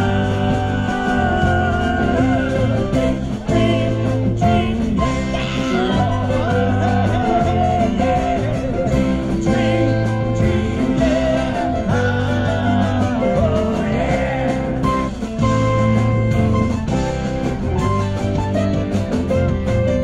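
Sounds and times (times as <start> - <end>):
bass: 0.0 - 20.0
drums: 0.0 - 20.0
guitar melodic line: 0.0 - 20.0.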